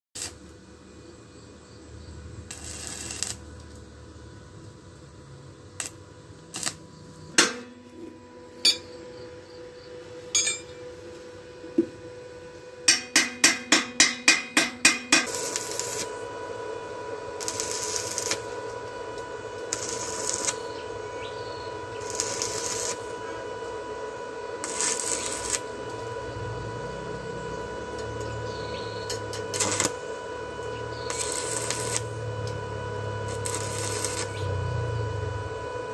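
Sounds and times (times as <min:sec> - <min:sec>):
arc welding crackle: 0:00.2 - 0:08.0, 0:12.8 - 0:35.9
welder hum: 0:00.2 - 0:35.9.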